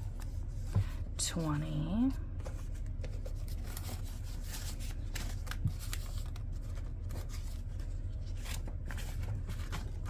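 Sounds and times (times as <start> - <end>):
banknotes rustling as counted: 1.2 - 10.0.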